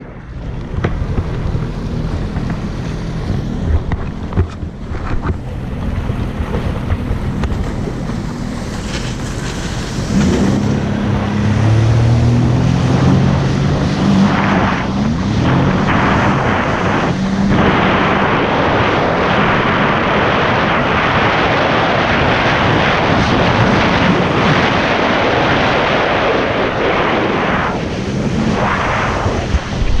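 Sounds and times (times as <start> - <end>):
jet ski engine: 0.0 - 30.0
water rushing: 0.0 - 30.0
wind buffeting microphone: 0.0 - 30.0.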